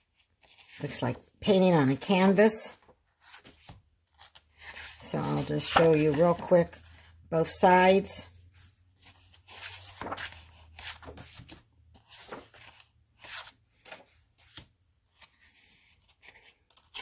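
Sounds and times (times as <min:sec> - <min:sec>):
paper sheets rustling and sliding: 0:01.8 - 0:07.6, 0:08.5 - 0:16.5.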